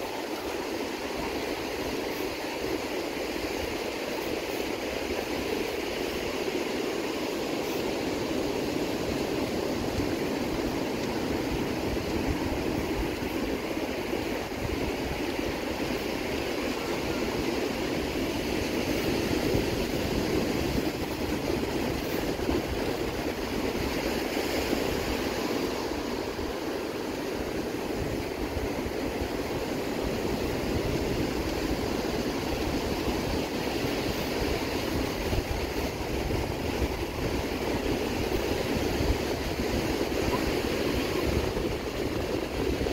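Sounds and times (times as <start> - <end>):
surf breaking on beach: 0.0 - 42.9
wind on microphone: 0.0 - 42.9.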